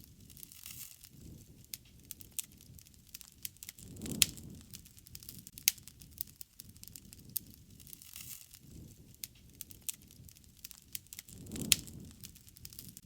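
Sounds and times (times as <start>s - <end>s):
campfire crackling: 0.0s - 13.0s
rush of flame: 0.0s - 13.0s.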